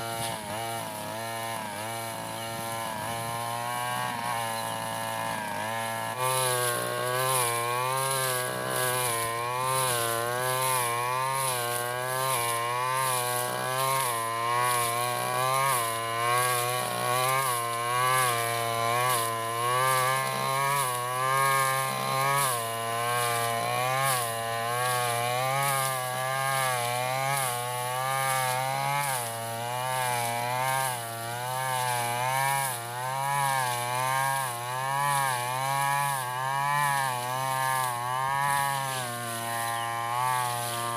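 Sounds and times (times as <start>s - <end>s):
brush cutter engine cutting grass: 0.0s - 40.9s.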